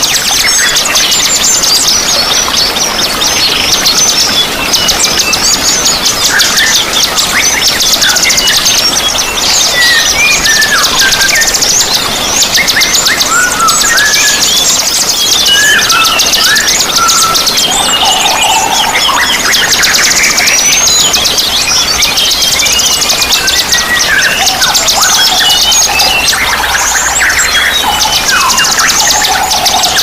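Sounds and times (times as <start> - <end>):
songbirds chattering: 0.0 - 30.0
whistled bird notes: 0.0 - 30.0.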